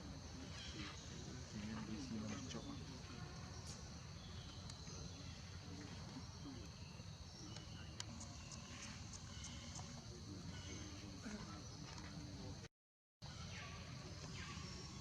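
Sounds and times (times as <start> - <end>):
insects droning: 0.0 - 12.6.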